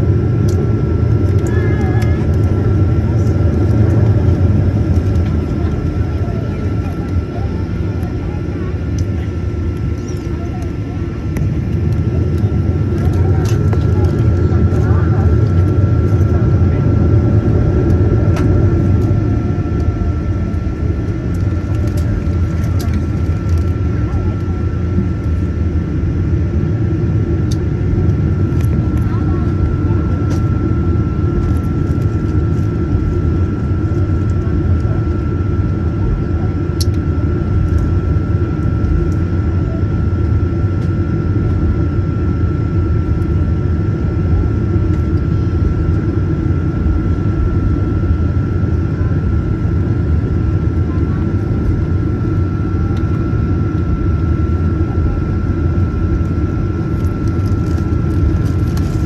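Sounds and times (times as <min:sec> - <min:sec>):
airliner cabin engine rumble: 0:00.0 - 0:59.0
steady engine whine: 0:00.0 - 0:59.0.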